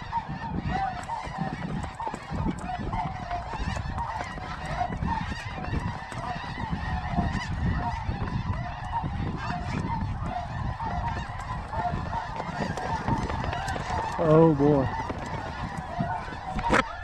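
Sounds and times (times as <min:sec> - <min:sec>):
flock of geese honking: 0:00.0 - 0:17.0
wind rumbling on microphone: 0:00.0 - 0:17.0.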